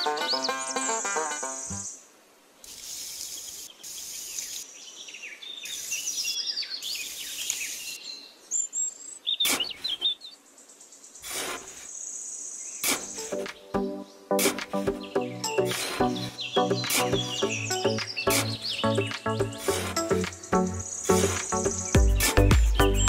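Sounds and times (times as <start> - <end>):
birds chirping: 0.0 - 2.0, 3.2 - 23.0
insect buzz: 1.1 - 4.8, 5.6 - 8.0, 9.4 - 23.0.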